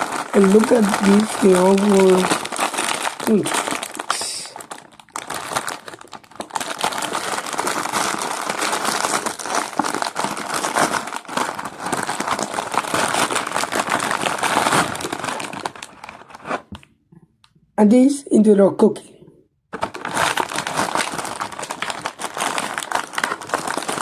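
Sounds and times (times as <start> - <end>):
snack packaging crinkling: 0.0 - 16.8, 19.7 - 24.0.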